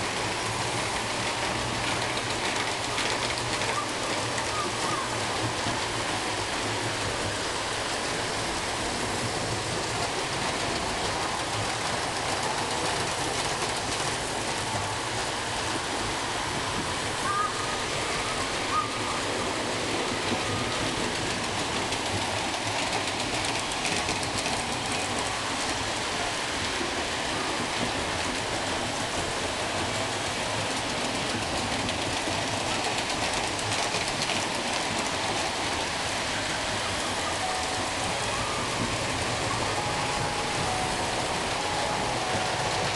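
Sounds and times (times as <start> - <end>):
model train wheels rattling on track: 0.0 - 17.1, 19.5 - 42.9.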